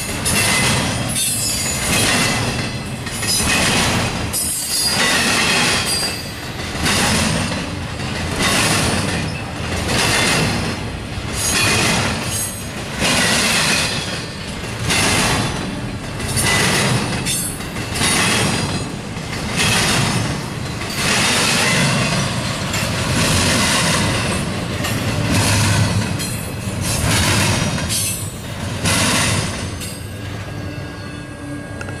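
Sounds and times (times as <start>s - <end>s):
freight train wheels clattering: 0.0s - 30.9s.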